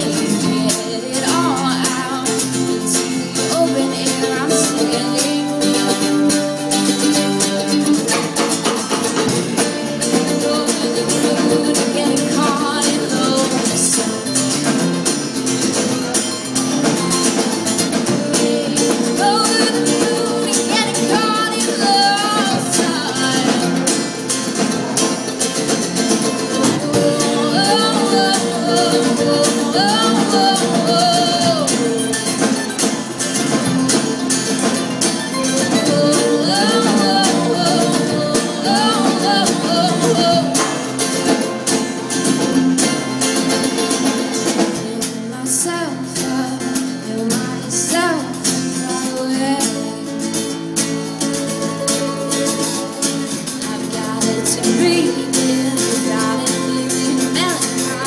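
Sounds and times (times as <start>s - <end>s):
woman singing: 0.0s - 15.4s, 16.8s - 42.0s, 44.2s - 58.0s
mandolin: 0.0s - 58.0s
strummed acoustic guitars: 0.0s - 58.0s.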